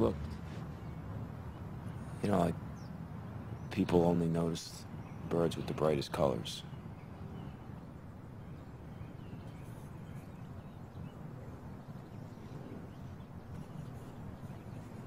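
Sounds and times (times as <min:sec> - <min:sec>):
low-pitched background noise: 0:00.0 - 0:15.0.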